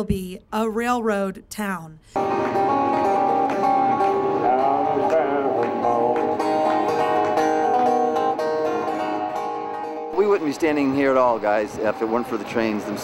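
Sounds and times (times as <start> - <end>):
banjo and guitar bluegrass music: 2.2 - 13.0.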